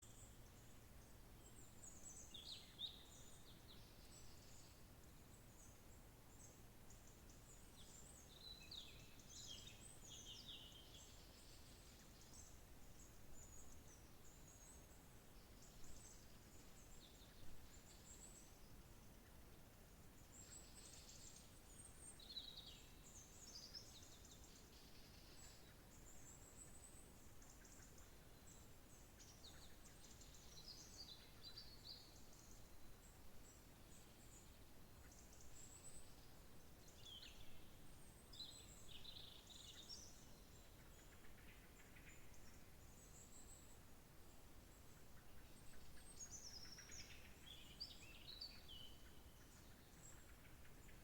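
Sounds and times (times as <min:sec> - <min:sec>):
low background hiss: 0:00.0 - 0:51.0
songbirds chirping and trilling: 0:00.0 - 0:51.0.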